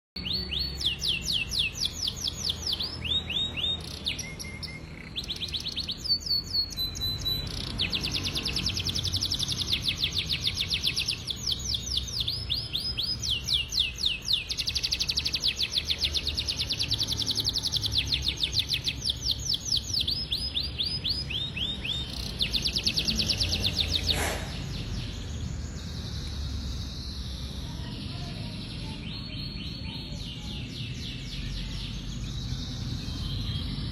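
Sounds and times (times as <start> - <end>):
canary singing trills: 0.2 - 33.9.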